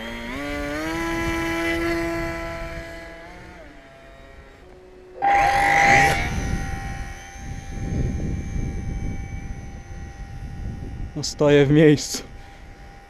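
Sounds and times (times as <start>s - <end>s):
model airplane motor droning: 0.0s - 13.0s
wind rumbling on microphone: 0.0s - 13.0s.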